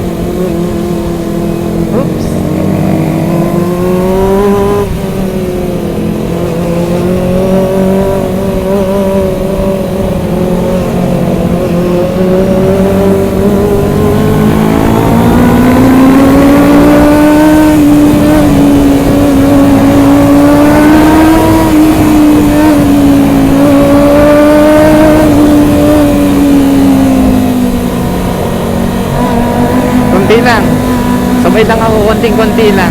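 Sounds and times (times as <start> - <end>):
motorcycle engine at high revs: 0.0 - 32.9.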